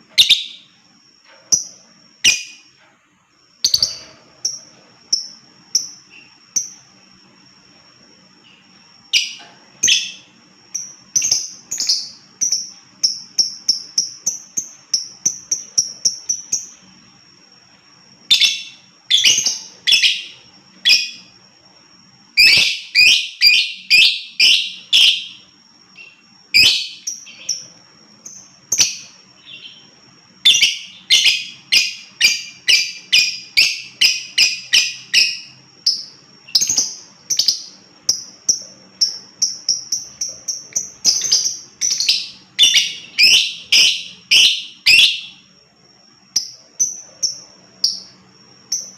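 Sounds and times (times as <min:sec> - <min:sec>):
lovebird chirping: 0:00.1 - 0:02.8, 0:03.6 - 0:07.4, 0:08.3 - 0:17.2, 0:18.2 - 0:21.4, 0:22.2 - 0:45.6.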